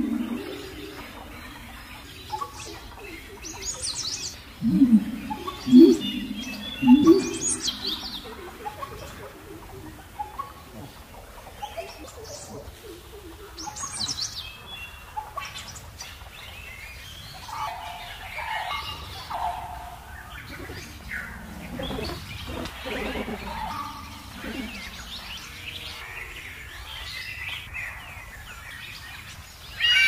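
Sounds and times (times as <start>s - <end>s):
lower bird calls: 0.0s - 15.0s, 17.4s - 28.4s
birds chirping: 0.0s - 30.0s.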